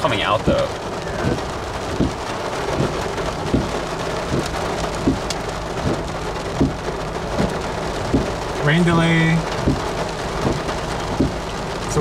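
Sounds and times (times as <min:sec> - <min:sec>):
heavy rain pouring: 0:00.0 - 0:12.0
soft low thumps: 0:01.1 - 0:12.0.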